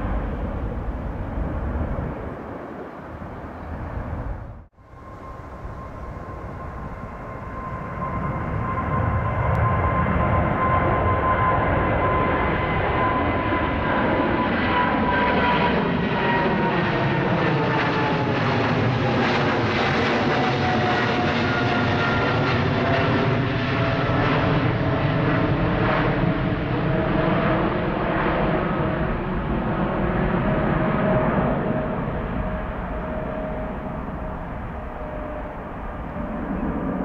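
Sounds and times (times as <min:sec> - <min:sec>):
jet engine rumble and whine: 0:00.0 - 0:37.0.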